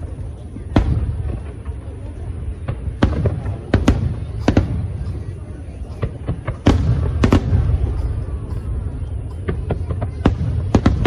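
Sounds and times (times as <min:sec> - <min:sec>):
fireworks bangs: 0:00.0 - 0:11.0
low rumble of explosions: 0:00.0 - 0:11.0.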